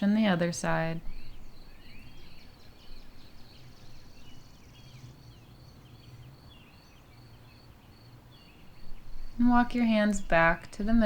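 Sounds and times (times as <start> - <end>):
faint birdsong chirps and trills: 0.0 - 11.0.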